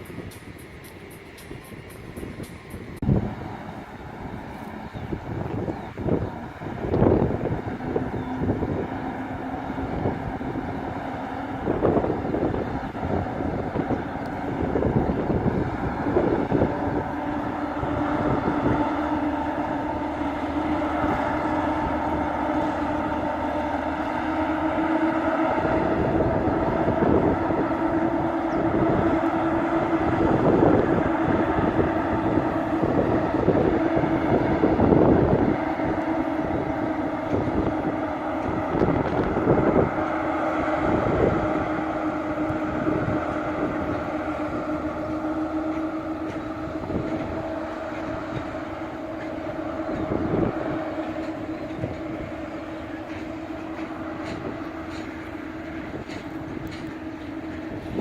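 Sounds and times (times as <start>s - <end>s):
freight train hum: 0.0s - 58.0s
wheels clacking on track: 0.0s - 58.0s.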